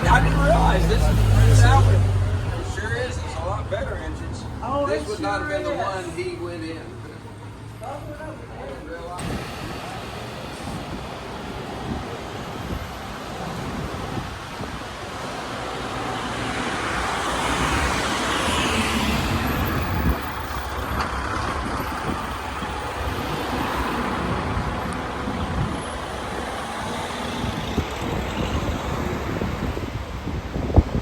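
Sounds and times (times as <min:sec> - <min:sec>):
street traffic noise: 0:00.0 - 0:31.0
vehicle passing: 0:00.0 - 0:31.0.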